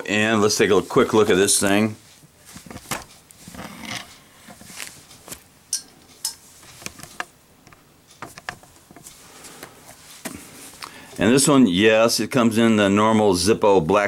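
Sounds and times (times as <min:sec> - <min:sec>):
soft rustling: 0:00.1 - 0:11.5.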